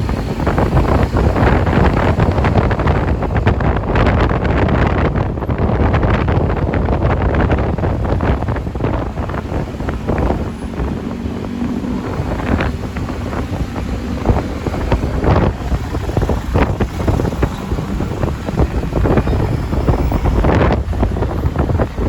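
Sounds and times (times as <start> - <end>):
motorcycle running: 0.0 - 22.0
surrounding traffic: 0.0 - 22.0
wind buffeting microphone: 0.0 - 22.0.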